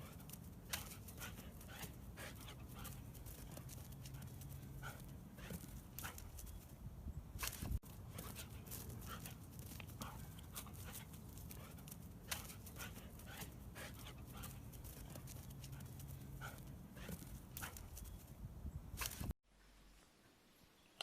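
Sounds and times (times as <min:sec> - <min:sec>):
dog panting: 0:00.0 - 0:06.6, 0:07.9 - 0:18.1.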